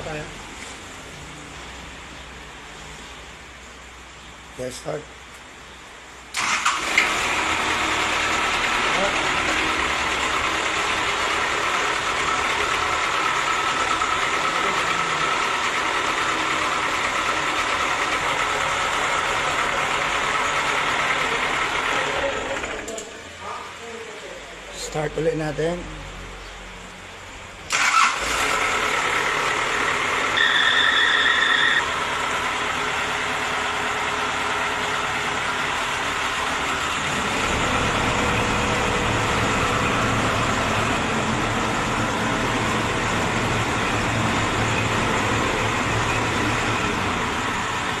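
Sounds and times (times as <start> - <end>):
diesel engine starting and running: 5.8 - 23.6, 24.6 - 48.0.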